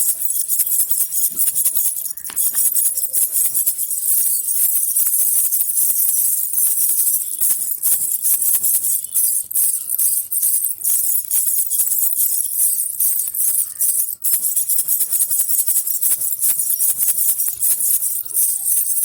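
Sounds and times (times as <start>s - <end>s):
baby rattle bells jingling: 0.0s - 19.0s.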